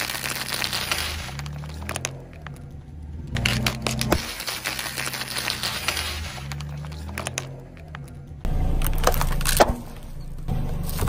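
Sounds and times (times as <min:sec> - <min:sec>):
plastic bottle crackling: 0:00.0 - 0:08.2, 0:08.8 - 0:10.1.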